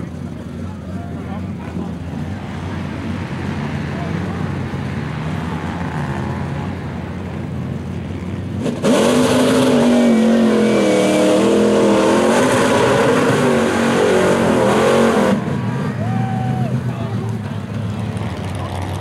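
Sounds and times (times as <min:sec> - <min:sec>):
low engine rumble: 0:00.0 - 0:08.6, 0:09.8 - 0:19.0
vehicle engine revving: 0:01.4 - 0:19.0.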